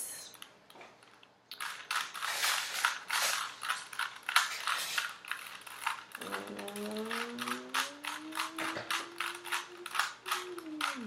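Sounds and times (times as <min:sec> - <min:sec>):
plastic cube clicking and rattling: 0:01.0 - 0:11.0.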